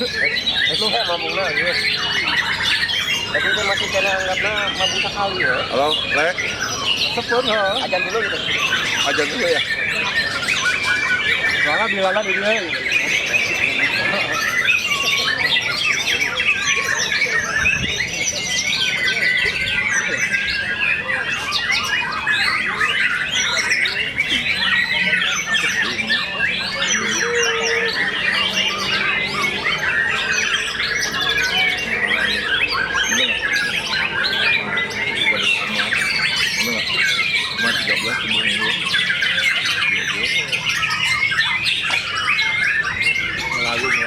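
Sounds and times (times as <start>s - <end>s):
songbirds chorus: 0.0s - 44.0s.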